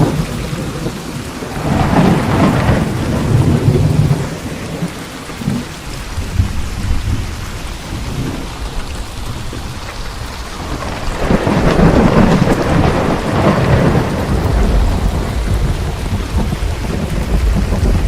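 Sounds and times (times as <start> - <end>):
heavy rain: 0.0 - 18.0
rolling thunder rumble: 0.0 - 18.0.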